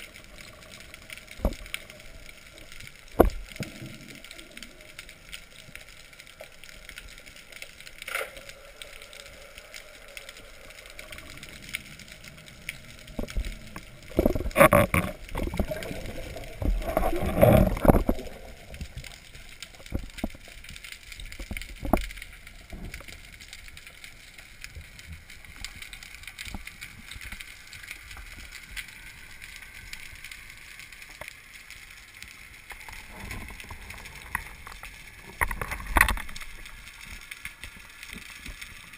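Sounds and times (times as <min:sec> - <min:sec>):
rushes of water: 0:00.0 - 0:31.3, 0:32.4 - 0:38.9
underwater low hiss: 0:00.0 - 0:38.9.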